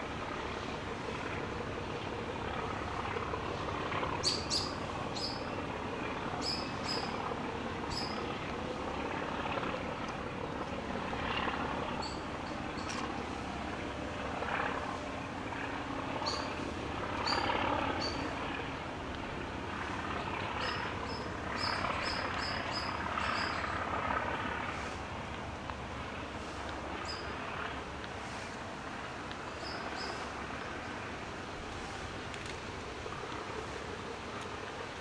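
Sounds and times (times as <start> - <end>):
distant city traffic rumble: 0.0 - 35.0.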